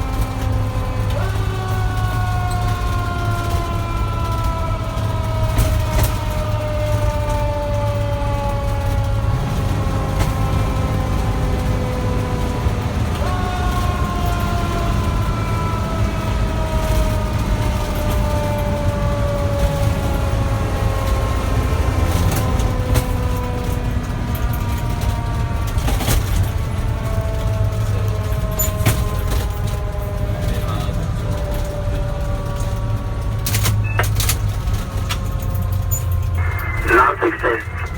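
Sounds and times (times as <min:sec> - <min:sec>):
truck engine rumble: 0:00.0 - 0:37.9.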